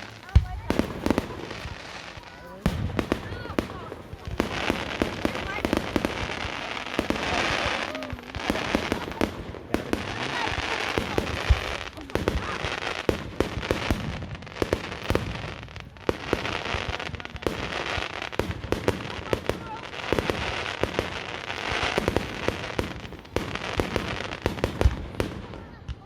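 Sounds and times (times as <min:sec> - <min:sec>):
firework shells bursting: 0:00.0 - 0:25.4
continuous crackling hiss: 0:00.0 - 0:26.0.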